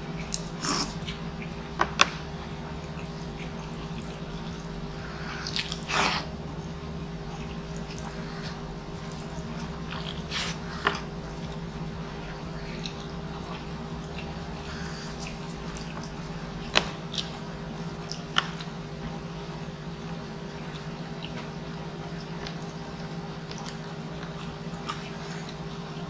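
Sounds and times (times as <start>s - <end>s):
person chewing: 0.0s - 6.4s, 7.2s - 19.1s, 20.6s - 26.0s
steady low hum: 0.0s - 26.0s.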